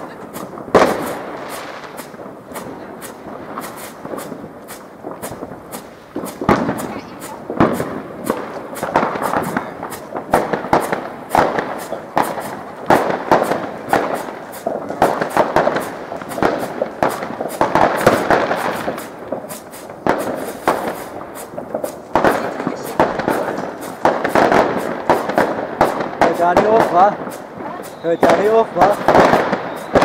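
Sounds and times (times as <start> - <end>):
fireworks bangs and crackle: 0.0 - 30.0.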